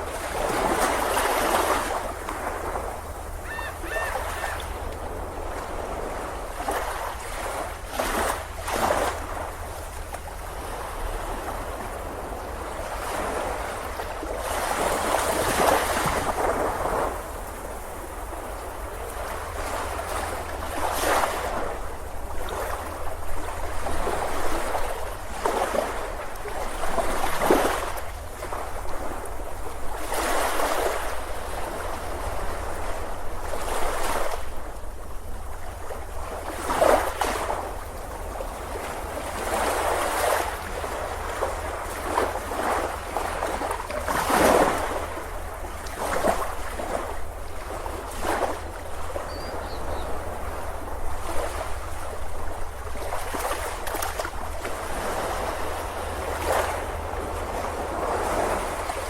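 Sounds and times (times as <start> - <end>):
ocean surf breaking on beach: 0.0 - 34.8, 35.9 - 59.0.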